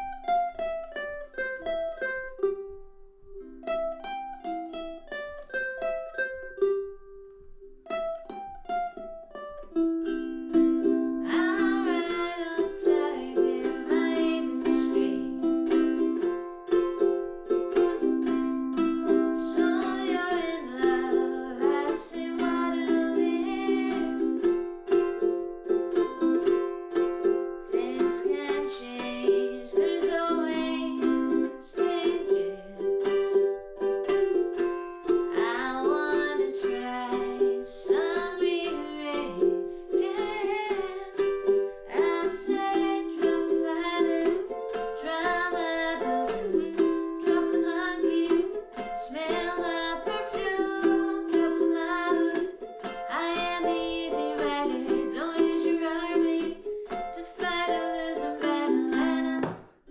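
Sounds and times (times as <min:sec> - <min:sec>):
ukulele strumming: 0:00.0 - 0:59.9.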